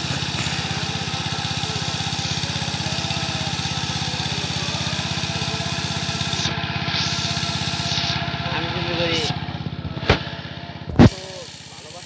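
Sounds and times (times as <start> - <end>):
small water pump engine running: 0.0 - 12.0.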